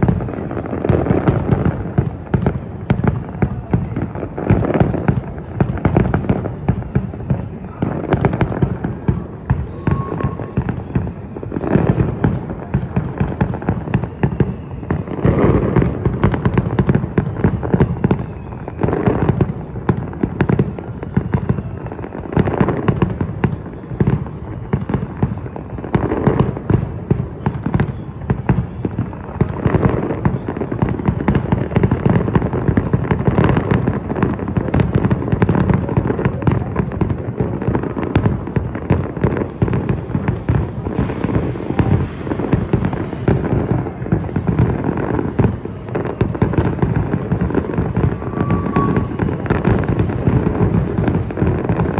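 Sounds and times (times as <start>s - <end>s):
fireworks bangs and crackling: 0.0s - 51.9s
heavy firework booms: 0.0s - 51.9s.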